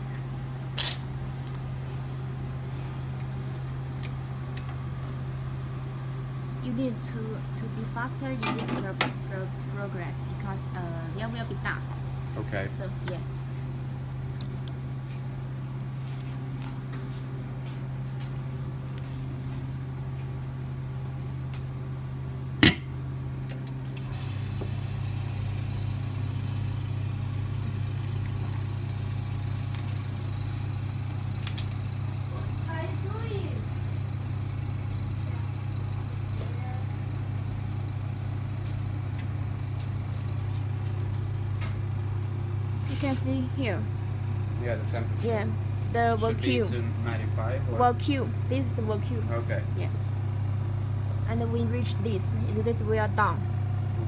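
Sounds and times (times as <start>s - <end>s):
laminating machine hum: 0.0s - 54.0s.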